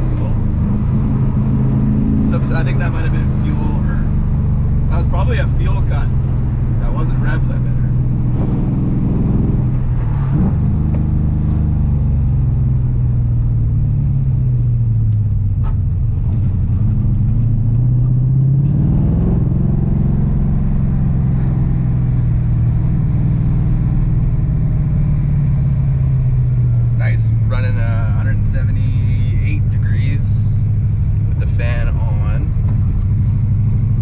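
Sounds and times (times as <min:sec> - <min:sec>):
car engine heard from inside: 0:00.0 - 0:34.0.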